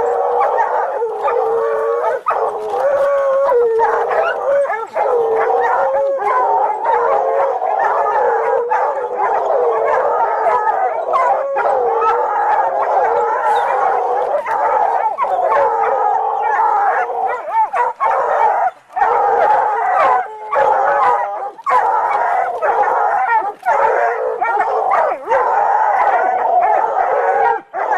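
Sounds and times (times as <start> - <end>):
dogs howling and yelping: 0.0 - 27.9.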